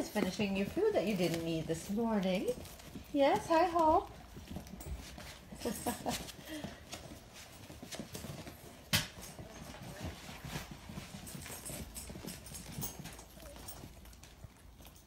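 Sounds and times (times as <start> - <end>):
puppies clicking and scuffling in crate: 0.0 - 15.0.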